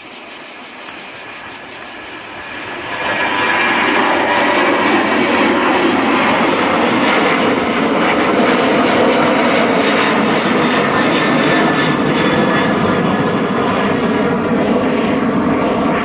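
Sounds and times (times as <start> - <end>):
jet engine rushing: 0.0 - 16.0.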